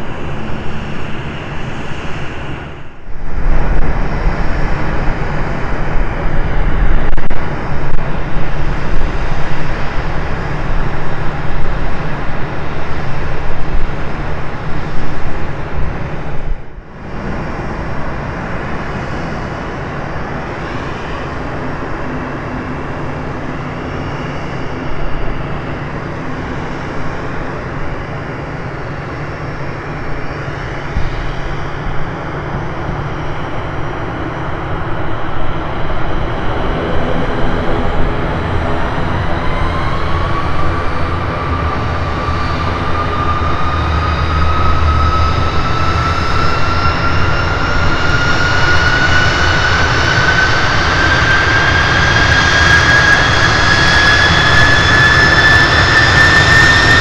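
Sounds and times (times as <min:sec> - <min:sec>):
faint whine shifting in pitch: 0:00.0 - 0:57.0
turboprop engines running: 0:00.0 - 0:57.0.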